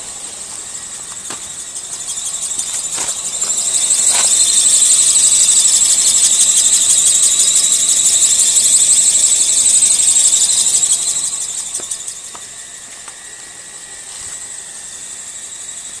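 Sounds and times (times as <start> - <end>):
engine belt squealing: 0.0 - 16.0.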